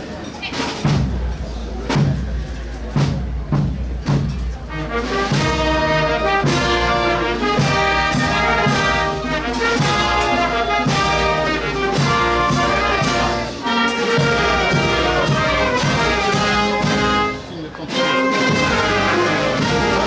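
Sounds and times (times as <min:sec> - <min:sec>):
brass band playing: 0:01.8 - 0:20.0.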